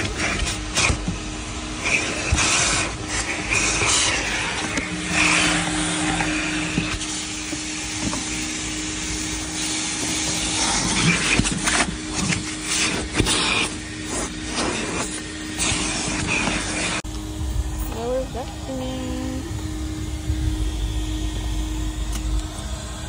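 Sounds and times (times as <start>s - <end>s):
vacuum motor hum: 0.0s - 23.0s
vacuum nozzle sucking over fabric: 0.0s - 23.0s.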